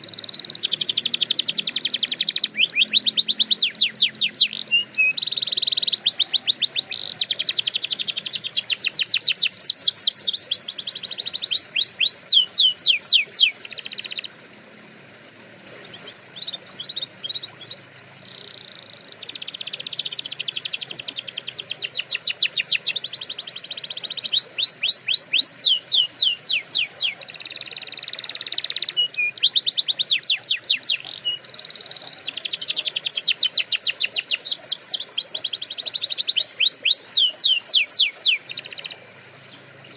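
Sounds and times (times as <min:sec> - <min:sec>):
canary singing trills: 0:00.0 - 0:14.8, 0:15.8 - 0:39.9.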